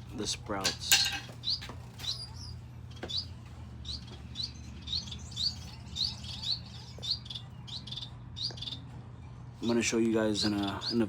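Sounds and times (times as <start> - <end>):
finches chirping: 0.2 - 11.0.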